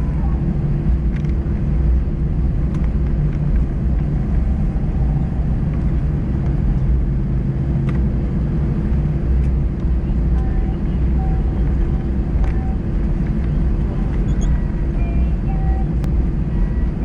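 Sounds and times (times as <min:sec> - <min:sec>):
jet engines idling hum: 0:00.0 - 0:17.0
low rumble: 0:00.0 - 0:17.0.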